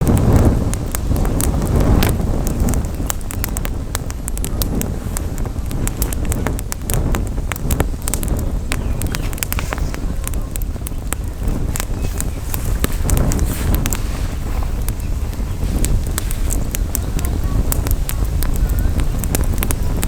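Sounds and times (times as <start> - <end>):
campfire crackling: 0.0 - 20.0
wind rumble on microphone: 0.0 - 20.0.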